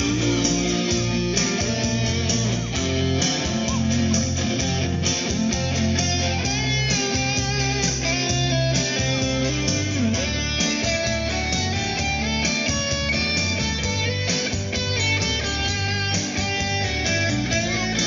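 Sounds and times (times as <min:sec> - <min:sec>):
bass line: 0:00.0 - 0:18.0
instrumental guitar music: 0:00.0 - 0:18.0.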